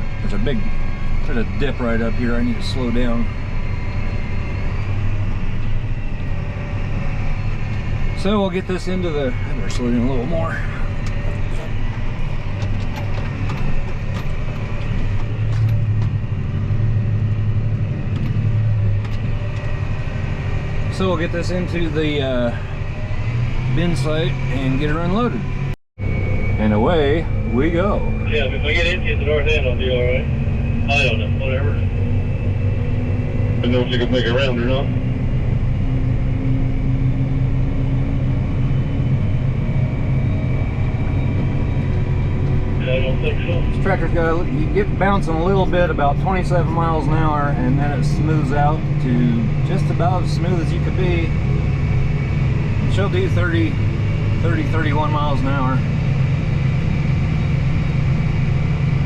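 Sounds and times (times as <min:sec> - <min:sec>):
higher hum: 0:00.0 - 0:59.0
tractor engine running: 0:00.0 - 0:59.0.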